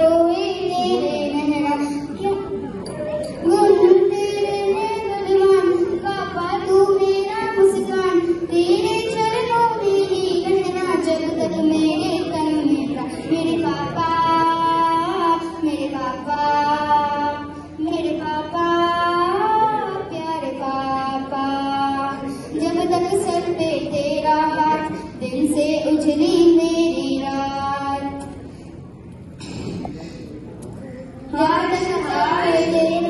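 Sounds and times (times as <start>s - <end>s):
girl singing: 0.0s - 28.3s, 31.3s - 33.0s.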